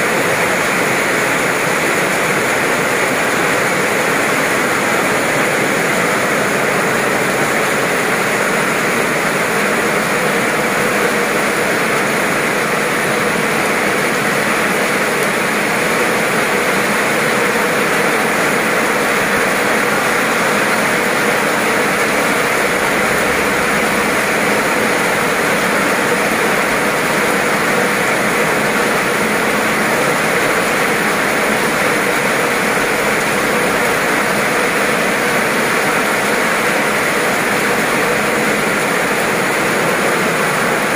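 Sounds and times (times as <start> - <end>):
heavy rain on wet pavement: 0.0 - 40.9.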